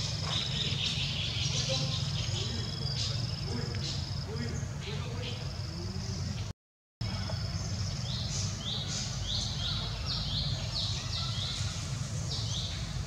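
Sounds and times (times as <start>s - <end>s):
bird chirping: 0.0s - 13.0s
low outdoor rumble: 0.0s - 13.0s.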